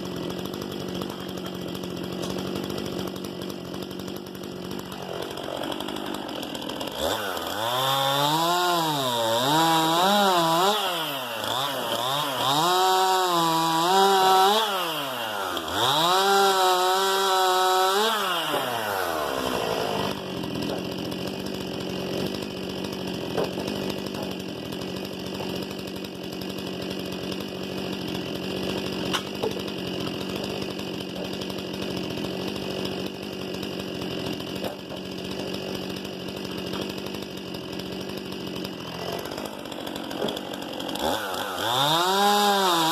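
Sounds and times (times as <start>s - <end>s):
chainsaw engine revving: 0.0s - 42.9s
chainsaw idling: 0.0s - 42.9s.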